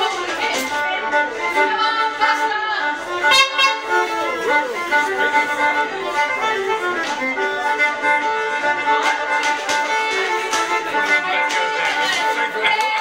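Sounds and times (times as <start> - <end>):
fiddle playing dance tune: 0.0 - 13.0.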